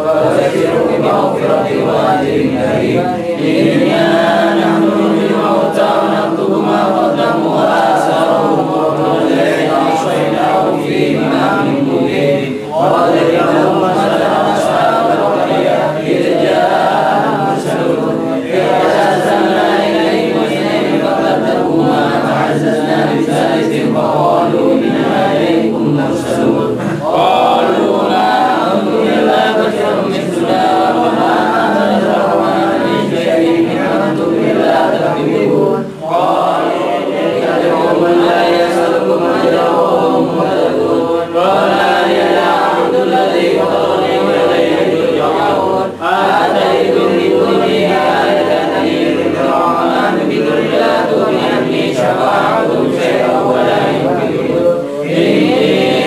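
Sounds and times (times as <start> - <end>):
group of voices chanting: 0.0 - 56.0.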